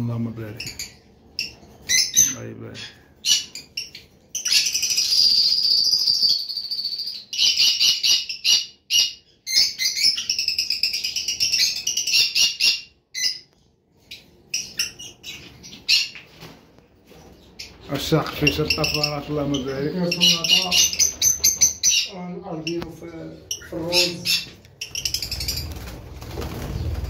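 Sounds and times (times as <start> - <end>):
birds chirping and trilling: 0.0 - 27.0.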